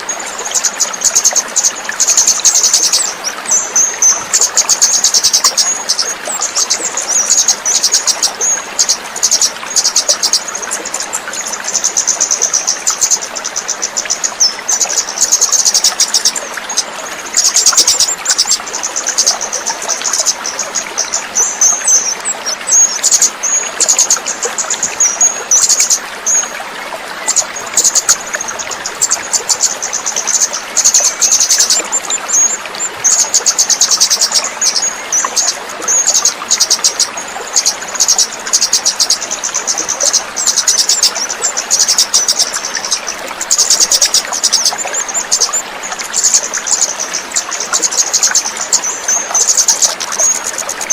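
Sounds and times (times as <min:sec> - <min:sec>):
running water: 0:00.0 - 0:50.9.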